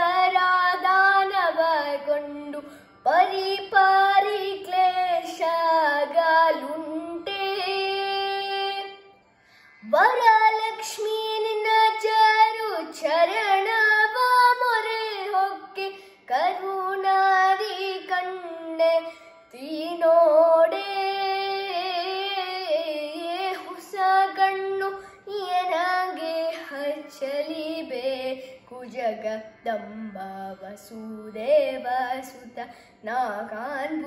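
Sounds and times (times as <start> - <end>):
boy singing: 0.0 - 9.0, 9.8 - 34.0.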